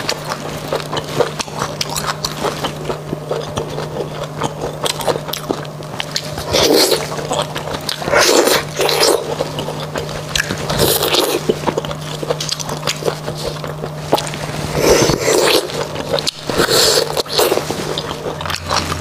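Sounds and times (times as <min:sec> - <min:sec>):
chewing: 0:00.0 - 0:19.0
wet slurping of bone marrow: 0:00.0 - 0:19.0.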